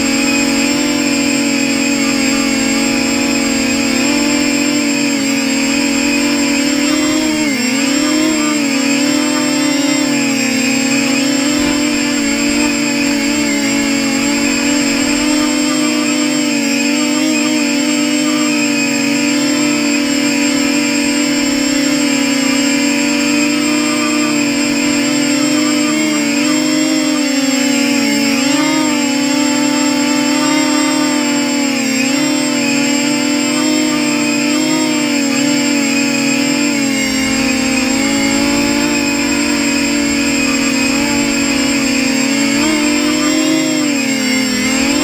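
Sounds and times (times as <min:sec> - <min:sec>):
drone motors buzzing: 0:00.0 - 0:45.0.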